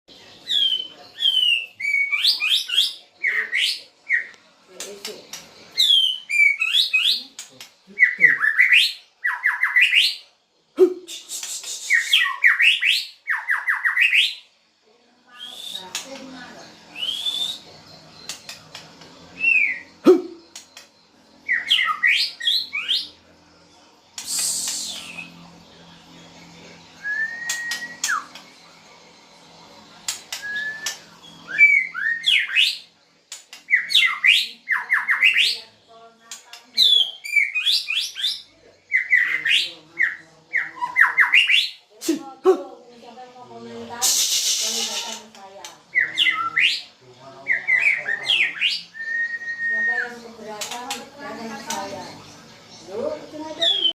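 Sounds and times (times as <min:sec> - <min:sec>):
shama bird singing: 0:00.1 - 0:04.4, 0:05.2 - 0:10.2, 0:11.1 - 0:14.6, 0:15.2 - 0:41.9, 0:44.0 - 0:53.9.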